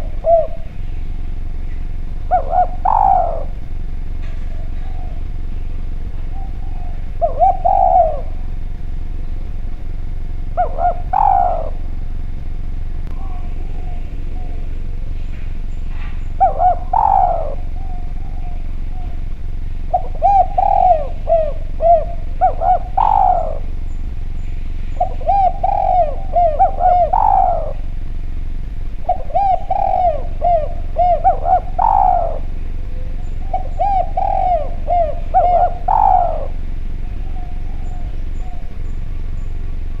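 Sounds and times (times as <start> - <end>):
dove cooing: 0.0 - 40.0
faint steady hum: 0.0 - 40.0.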